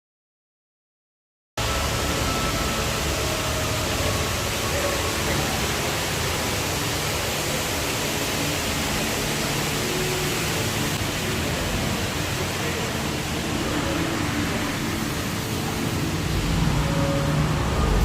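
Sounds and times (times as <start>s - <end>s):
steady rushing noise: 1.6s - 18.0s.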